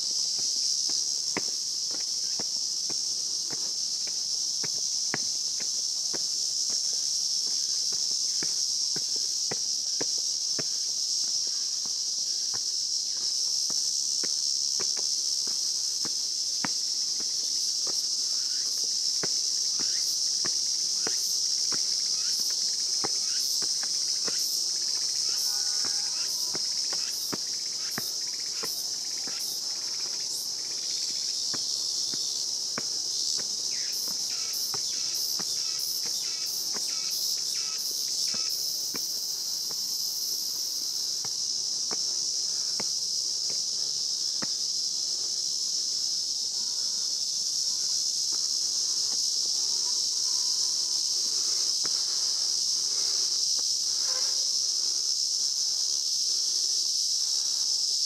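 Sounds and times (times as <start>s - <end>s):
insects chirping: 0.0s - 58.0s
footsteps on stone steps: 0.1s - 46.2s, 48.2s - 54.2s.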